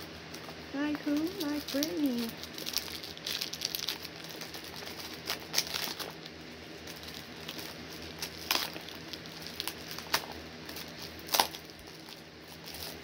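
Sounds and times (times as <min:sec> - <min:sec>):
wrappers crinkling: 0:00.3 - 0:13.0.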